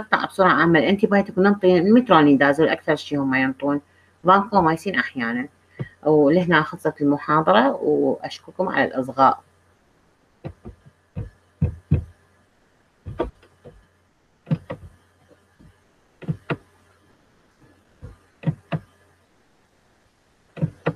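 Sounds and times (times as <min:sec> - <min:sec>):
faint low hum: 0:00.0 - 0:20.9.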